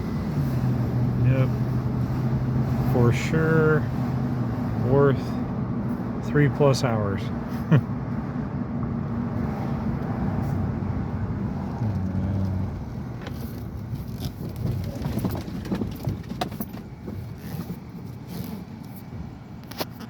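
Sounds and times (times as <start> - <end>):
car engine rumbling: 0.0 - 20.0
road noise: 0.0 - 20.0.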